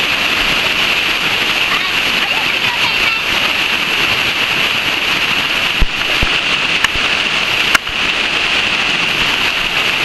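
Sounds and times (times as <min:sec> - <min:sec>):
creek water rushing over rock: 0:00.0 - 0:10.0.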